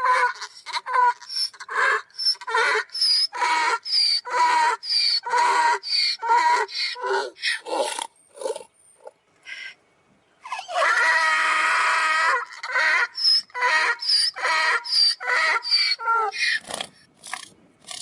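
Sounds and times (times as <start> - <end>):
donkey braying: 0.0 - 9.8, 10.4 - 18.0.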